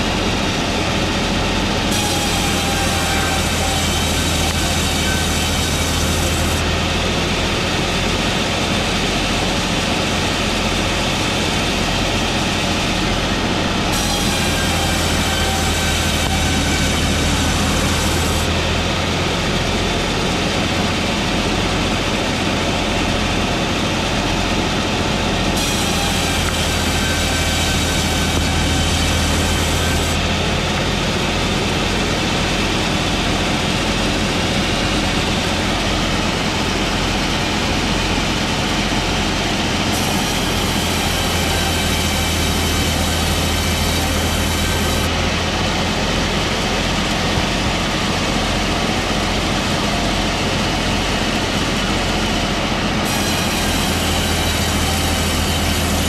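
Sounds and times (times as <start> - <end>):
electric saw running: 0.0 - 56.0.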